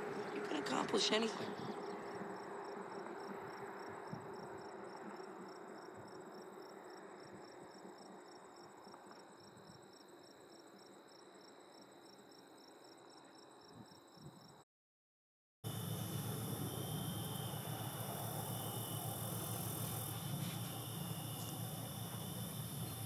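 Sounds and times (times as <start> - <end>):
insects chirping: 0.0 - 14.6, 15.7 - 23.0.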